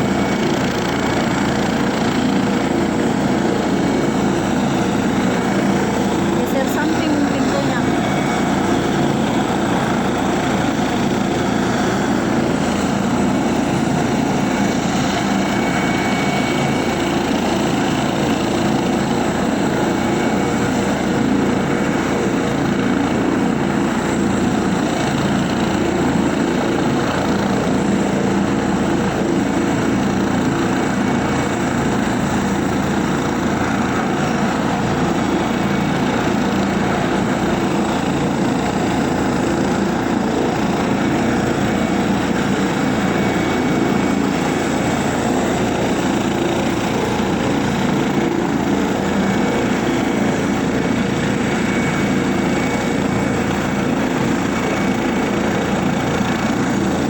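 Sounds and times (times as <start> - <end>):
helicopter engine and rotors: 0.0 - 57.0.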